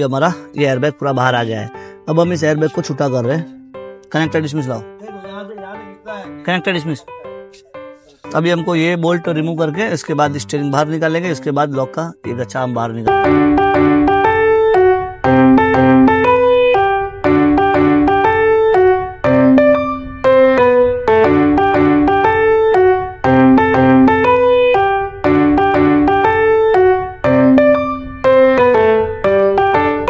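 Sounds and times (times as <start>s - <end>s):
repeating piano melody: 0.0s - 30.0s.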